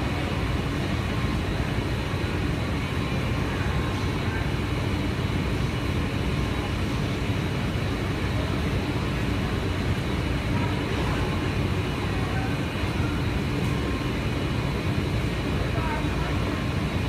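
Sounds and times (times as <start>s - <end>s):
faint steady whines: 0.0s - 17.0s
train rumble and hum: 0.0s - 17.0s.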